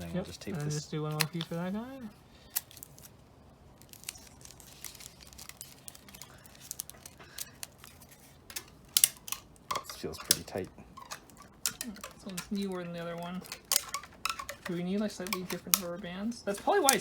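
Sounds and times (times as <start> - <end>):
adhesive tape pulled and torn: 2.4 - 16.0.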